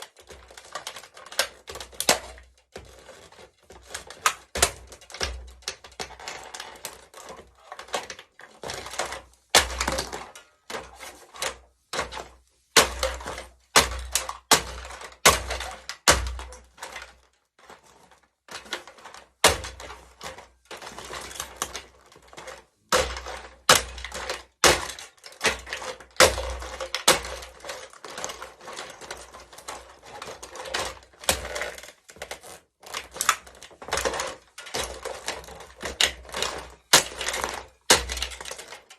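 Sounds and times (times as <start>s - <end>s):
plastic cracking and snapping: 0.0s - 38.9s.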